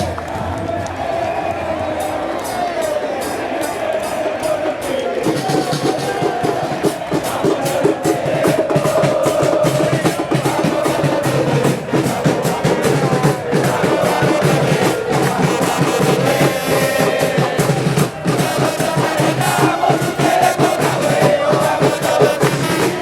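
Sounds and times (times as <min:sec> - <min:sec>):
drum band beating drums: 0:00.0 - 0:23.0.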